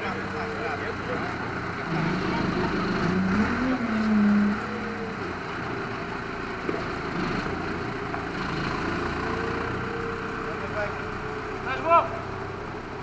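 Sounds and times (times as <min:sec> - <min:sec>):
forklift diesel engine running: 0:00.0 - 0:13.0.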